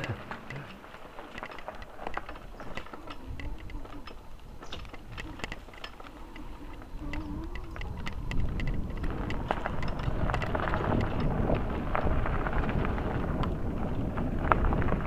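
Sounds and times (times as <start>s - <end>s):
bicycle freewheel ticking: 0.0s - 15.0s
bicycle rattling: 0.0s - 15.0s.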